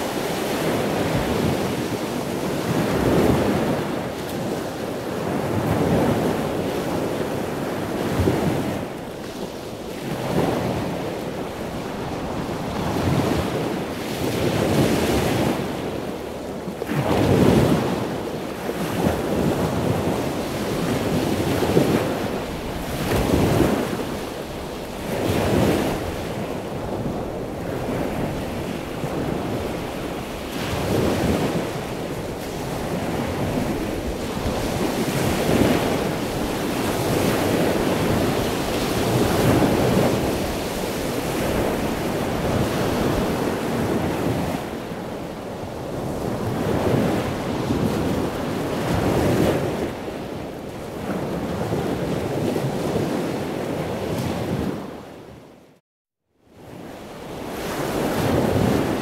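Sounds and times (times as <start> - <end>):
ocean surf breaking: 0.0 - 54.9, 57.1 - 59.0.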